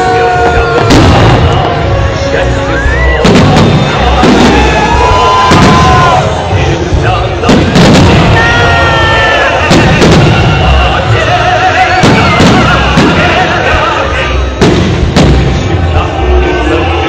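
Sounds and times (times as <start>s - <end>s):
fireworks bangs: 0.0s - 16.8s
low rumble of fireworks: 0.0s - 17.0s
music: 0.0s - 17.0s.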